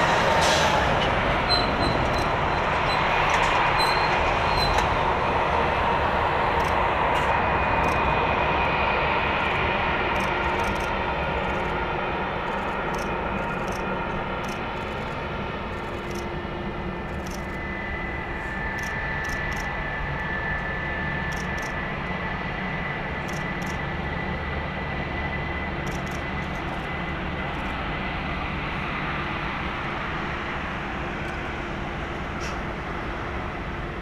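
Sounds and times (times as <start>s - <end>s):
jet engines rumbling with high whine: 0.0s - 34.0s.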